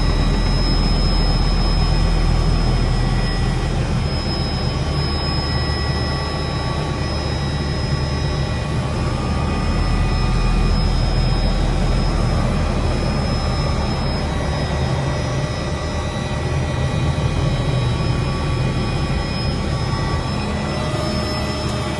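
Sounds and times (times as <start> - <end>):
helicopter engine and rotor: 0.0 - 21.9
turbine whine: 0.0 - 21.9.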